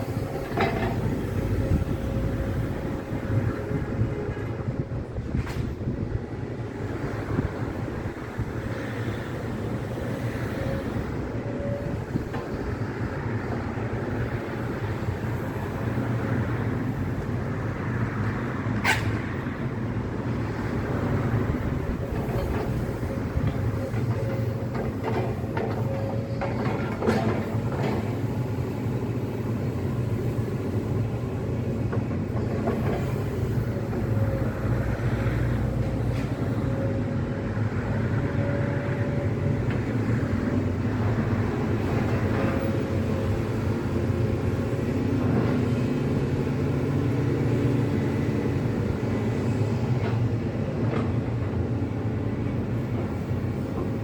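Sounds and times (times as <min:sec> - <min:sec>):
excavator diesel drone: 0:00.0 - 0:54.0.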